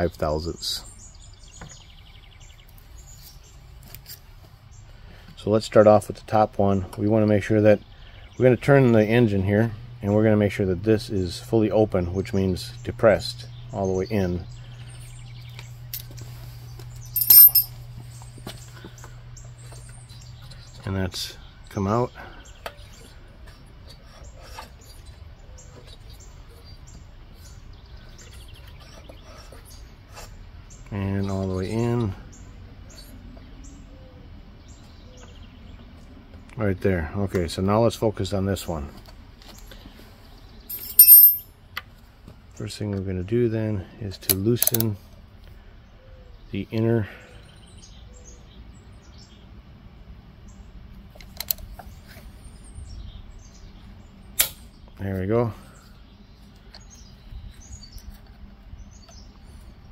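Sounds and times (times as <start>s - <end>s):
birds chirping: 0.0s - 5.6s, 6.6s - 38.8s, 39.6s - 41.5s, 50.4s - 59.9s
outdoor background noise: 0.0s - 59.9s.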